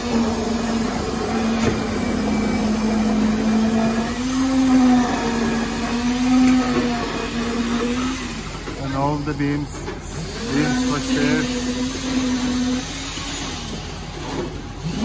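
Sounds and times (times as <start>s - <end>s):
machinery motor whine: 0.0s - 15.0s.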